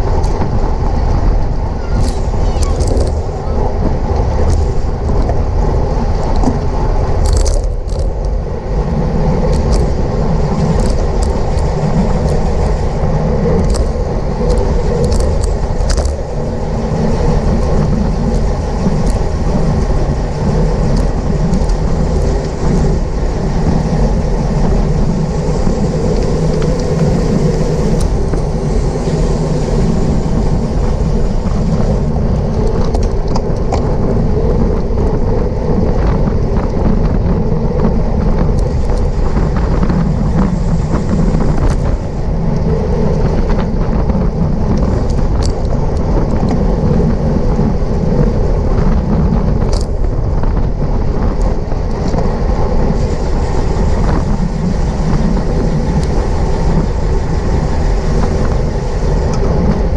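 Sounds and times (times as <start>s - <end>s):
road and tyre noise: 0.0s - 59.9s
wind rushing over microphone: 0.0s - 59.9s.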